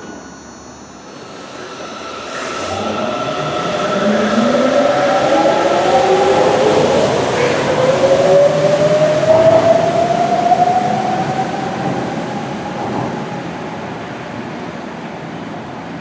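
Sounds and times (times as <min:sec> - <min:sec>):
subway train motors whining: 0:00.0 - 0:16.0.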